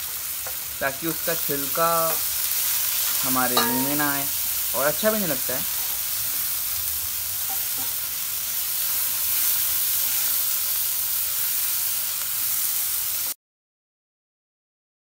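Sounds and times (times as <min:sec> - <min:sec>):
masala sizzling in hot oil: 0:00.0 - 0:13.4.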